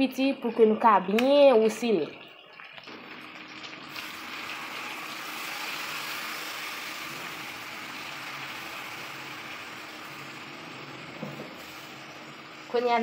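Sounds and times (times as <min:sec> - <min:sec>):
meat sizzling in a pot: 0:02.4 - 0:13.0.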